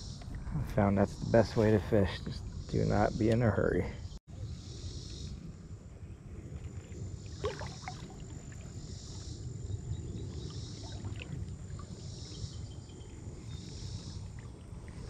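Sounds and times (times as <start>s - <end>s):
insects droning: 0.0s - 15.0s
wind: 0.0s - 15.0s
river water rumbling: 0.7s - 15.0s.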